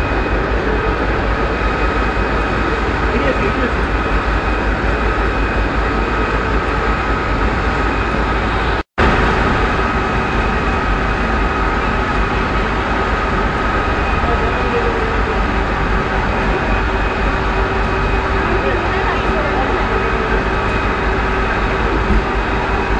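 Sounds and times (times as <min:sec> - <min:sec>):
factory machinery rumble: 0:00.0 - 0:22.9
high machine whine: 0:00.0 - 0:22.9.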